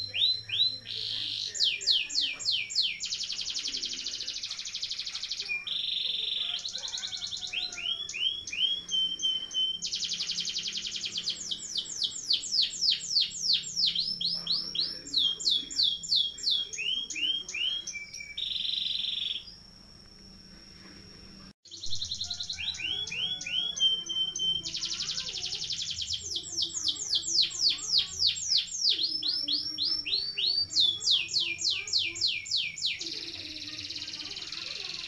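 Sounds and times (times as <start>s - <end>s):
canary singing trills: 0.0s - 19.7s, 21.7s - 35.0s.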